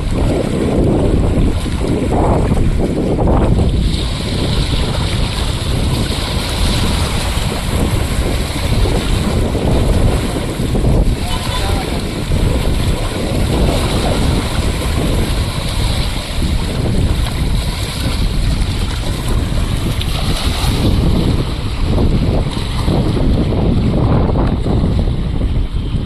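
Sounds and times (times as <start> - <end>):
choppy river water washing: 0.0 - 26.0
gusty wind buffeting microphone: 0.0 - 26.0.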